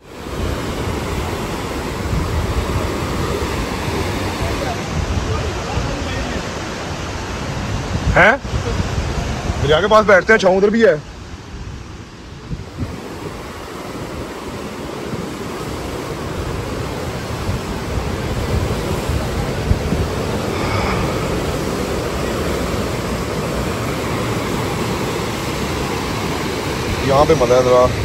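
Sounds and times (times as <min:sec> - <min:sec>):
river rushing over rapids: 0:00.0 - 0:28.0.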